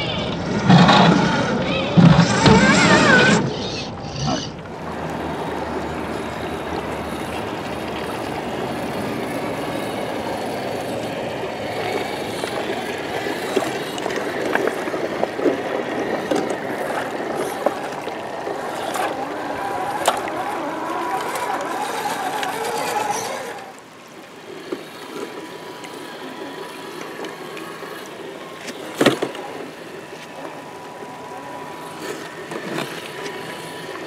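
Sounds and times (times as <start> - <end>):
stream running over rocks: 4.6 - 34.0.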